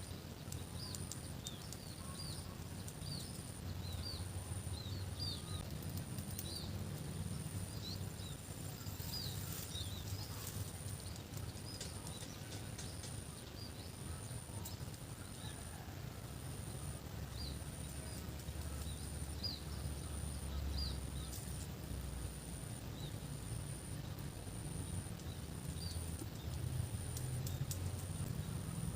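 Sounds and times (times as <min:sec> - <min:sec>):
low steady rumble: 0:00.0 - 0:28.9
small birds chirping: 0:00.0 - 0:28.9.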